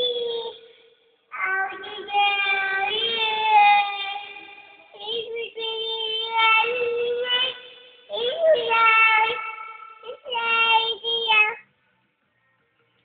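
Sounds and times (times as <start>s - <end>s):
child singing long notes: 0.0s - 0.7s, 1.3s - 11.6s.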